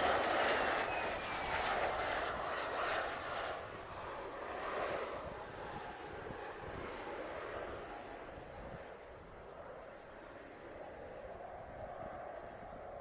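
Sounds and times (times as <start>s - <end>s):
distant jet engine: 0.0s - 13.0s
wind buffeting microphone: 0.0s - 13.0s.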